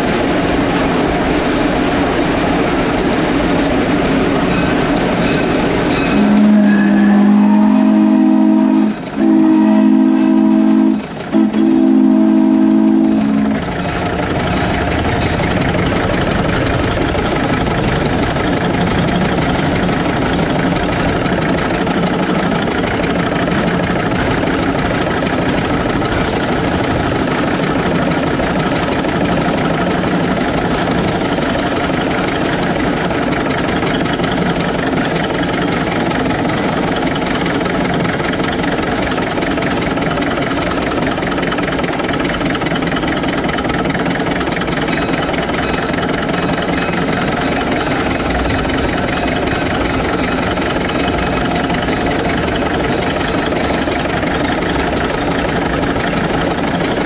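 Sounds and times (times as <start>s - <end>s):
steam locomotive clatter and rumble: 0.0s - 57.0s.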